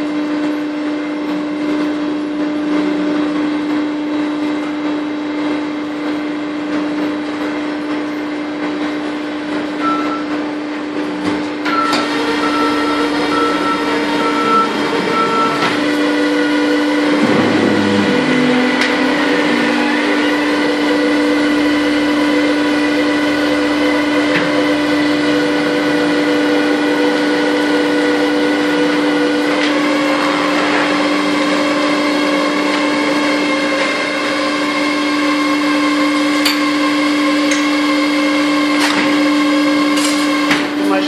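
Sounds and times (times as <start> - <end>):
press machinery humming: 0.0 - 41.0.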